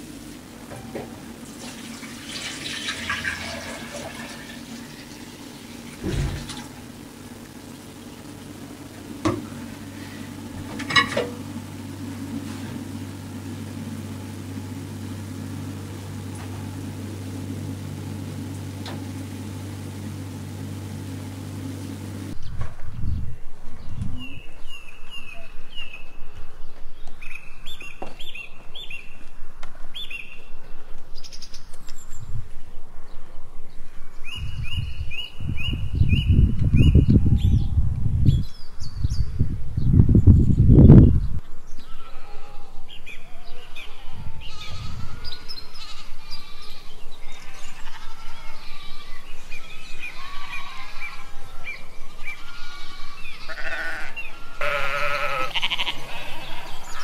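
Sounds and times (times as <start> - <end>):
low rumbling noise: 0.0 - 57.0
steady low hum: 0.0 - 57.0.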